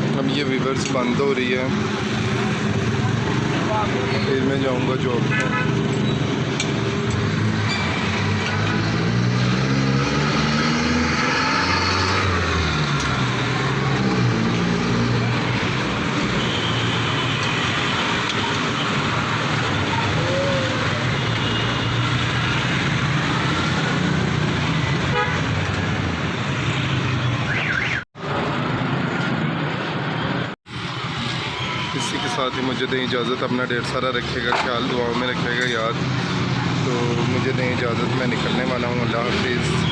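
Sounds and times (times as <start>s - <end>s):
passing vehicles: 0.0s - 39.9s.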